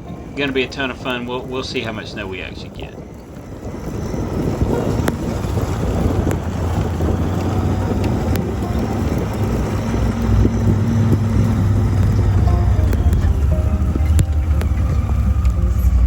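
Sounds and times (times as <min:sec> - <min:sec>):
low steady hum: 0:00.0 - 0:16.0
wind buffeting microphone: 0:00.0 - 0:16.0
faint clicks: 0:02.8 - 0:16.0.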